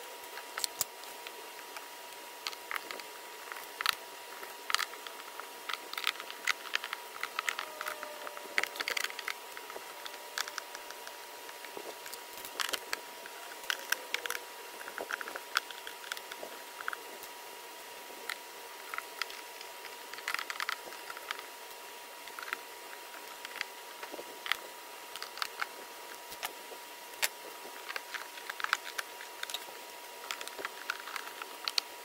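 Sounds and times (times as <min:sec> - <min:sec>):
faint high whine: 0:00.0 - 0:32.0.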